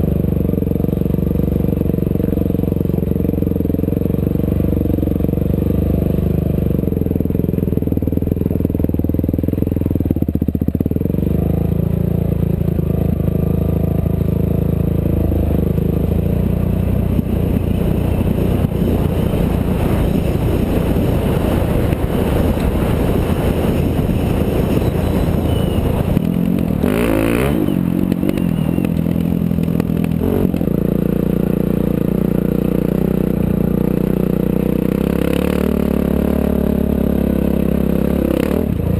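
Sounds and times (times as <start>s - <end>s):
off-road vehicle engine running: 0.0s - 38.9s
vehicle rattling over rough ground: 0.0s - 38.9s.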